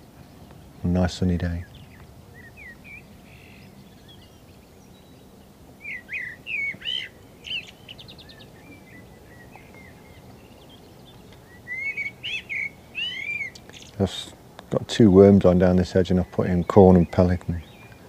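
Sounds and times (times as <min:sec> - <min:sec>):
low steady background noise: 0:00.0 - 0:18.0
small birds singing: 0:00.0 - 0:18.0.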